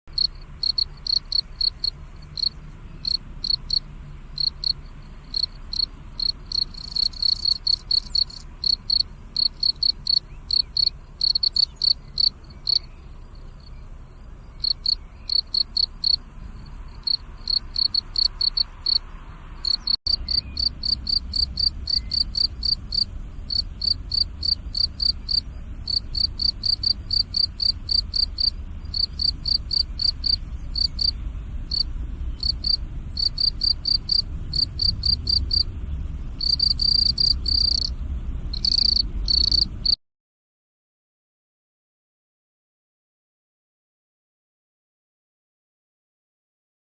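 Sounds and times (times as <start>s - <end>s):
field cricket chirping: 0.1s - 40.0s.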